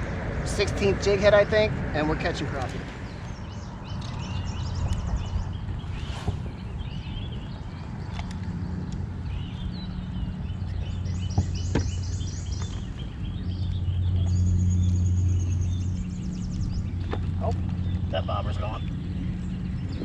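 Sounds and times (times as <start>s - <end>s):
birds chirping and singing: 0.0s - 20.0s
steady low hum: 0.0s - 20.0s.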